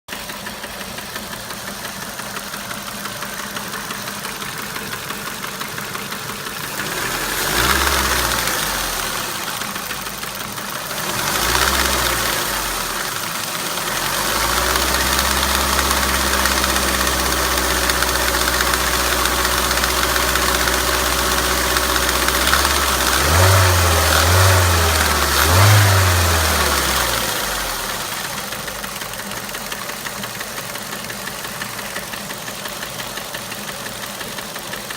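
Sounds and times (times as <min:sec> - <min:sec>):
car engine idling and revving: 0:00.1 - 0:34.9
engine knocking: 0:00.1 - 0:34.9.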